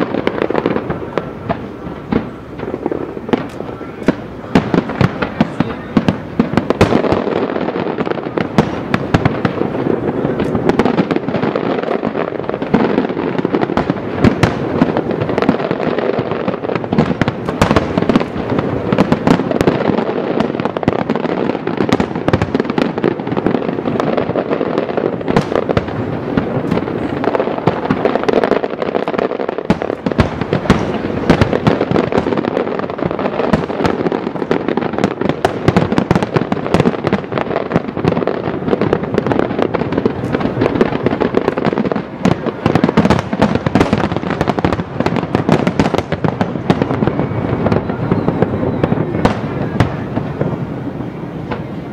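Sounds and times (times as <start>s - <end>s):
fireworks booming and crackling: 0.0s - 51.9s.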